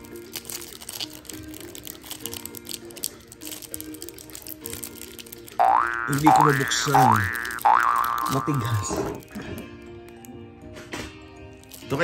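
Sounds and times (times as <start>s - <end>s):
plastic wrapper crackling: 0.0s - 10.4s, 11.5s - 12.0s
soft background music: 0.0s - 12.0s.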